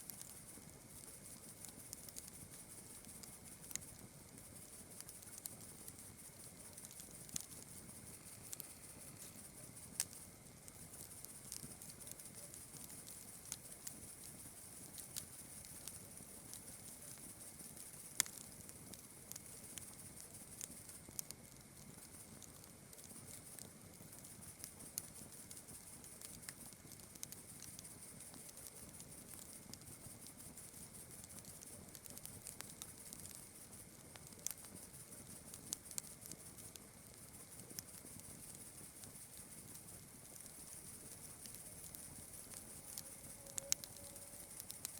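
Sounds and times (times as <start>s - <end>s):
campfire crackling and popping: 0.0s - 44.9s
night insects chirring: 0.1s - 21.2s, 23.0s - 44.9s.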